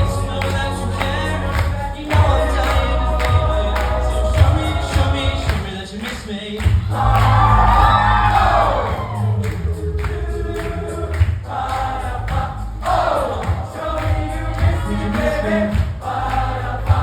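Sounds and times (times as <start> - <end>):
heavy low bass: 0.0 - 5.7, 6.6 - 17.0
group vocal harmonies: 0.0 - 17.0.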